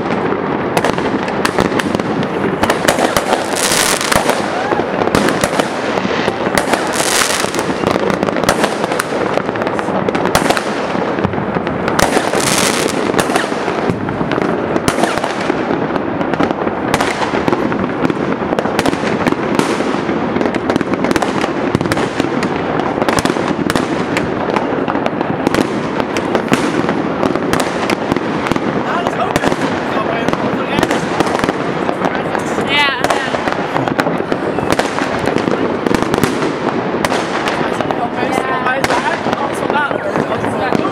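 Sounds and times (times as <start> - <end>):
fireworks crackling and banging: 0.0 - 40.9
loud firework bursts: 0.0 - 40.9.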